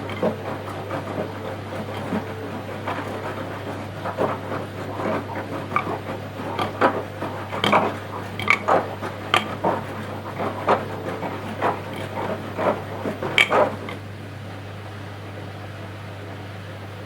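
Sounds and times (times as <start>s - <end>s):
laundry tumbling in drum: 0.0s - 14.0s
washing machine motor hum: 0.0s - 17.0s.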